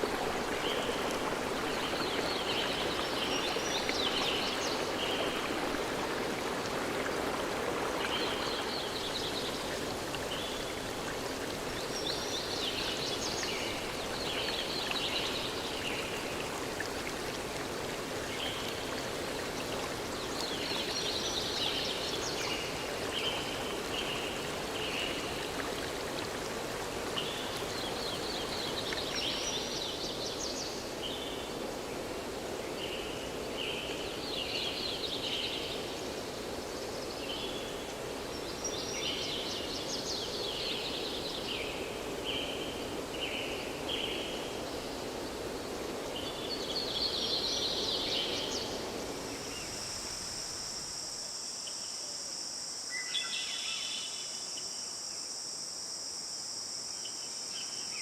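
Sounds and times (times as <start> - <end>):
flowing water: 0.0 - 51.2.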